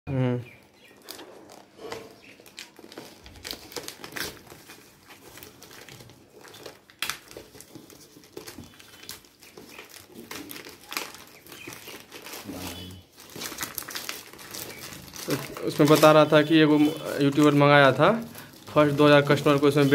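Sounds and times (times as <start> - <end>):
plastic bag crinkling: 0.8 - 19.9
plastic bag tearing: 0.9 - 19.9.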